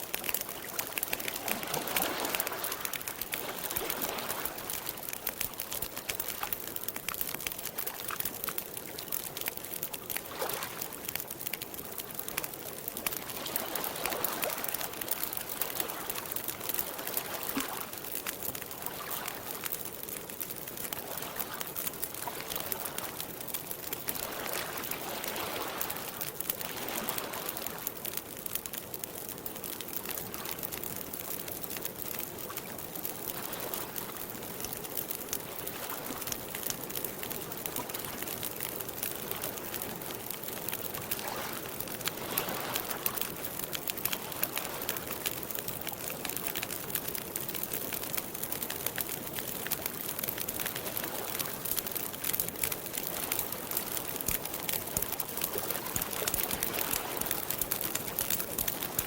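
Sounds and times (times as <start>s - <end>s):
campfire crackling: 0.0s - 59.0s
water lapping at shore: 0.0s - 59.0s.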